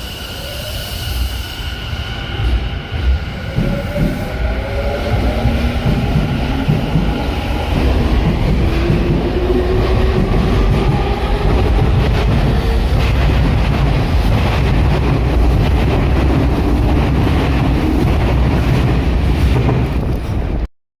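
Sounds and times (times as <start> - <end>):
train wheels clattering on rails: 2.4 - 20.6.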